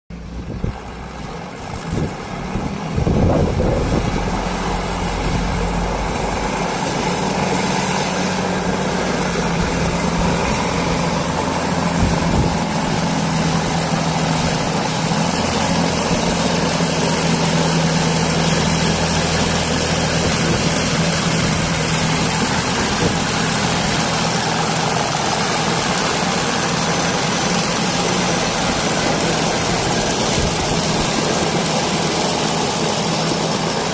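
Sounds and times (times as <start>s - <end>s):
harvesting machine engine drone: 0.1s - 33.9s.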